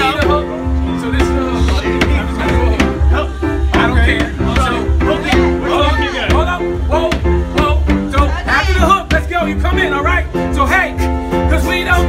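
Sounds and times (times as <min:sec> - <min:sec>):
heavy bass line: 0:00.0 - 0:12.0
piano chords: 0:00.0 - 0:12.0
sharp beat hits: 0:00.0 - 0:12.0.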